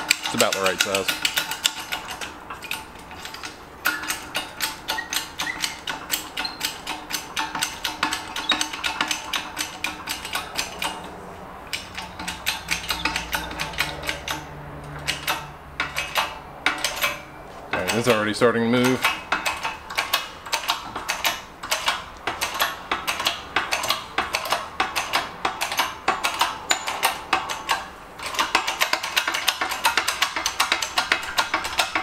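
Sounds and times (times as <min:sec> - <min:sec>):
hydraulic jack pump clicking: 0:00.0 - 0:32.0.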